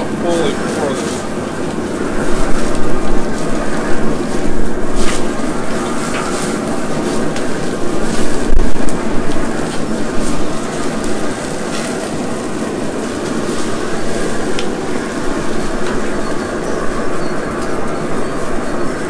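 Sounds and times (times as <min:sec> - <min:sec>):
flames burning and crackling: 0:00.0 - 0:19.0.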